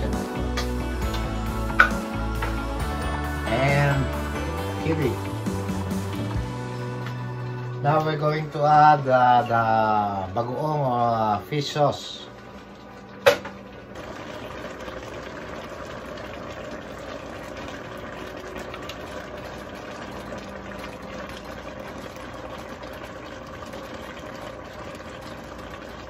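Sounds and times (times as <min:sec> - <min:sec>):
pot of vegetables boiling hard: 0:00.0 - 0:26.0.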